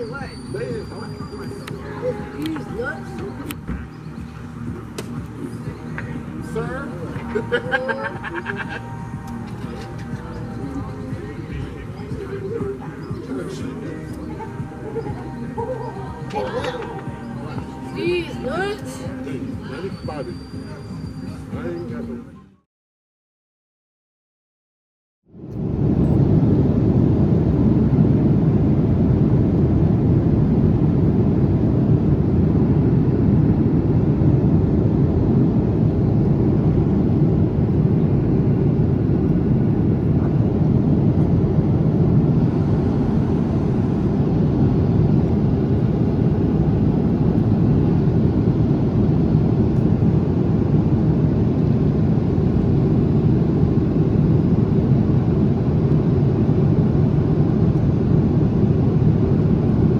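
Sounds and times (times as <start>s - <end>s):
low rumbling roar: 0.0s - 19.7s, 25.3s - 59.9s.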